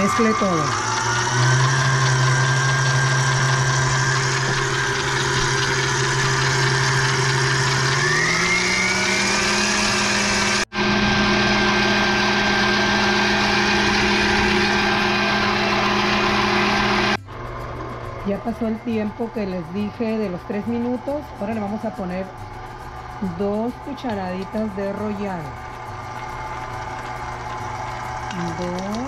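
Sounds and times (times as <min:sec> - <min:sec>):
stand mixer motor humming: 0:00.0 - 0:29.0.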